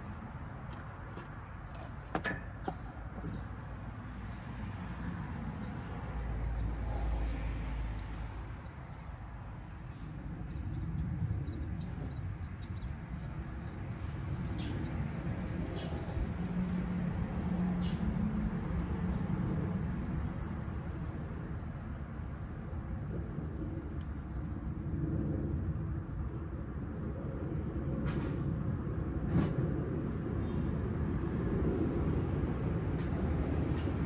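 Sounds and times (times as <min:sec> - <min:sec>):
low rumble of passing vehicle: 0:00.0 - 0:34.0.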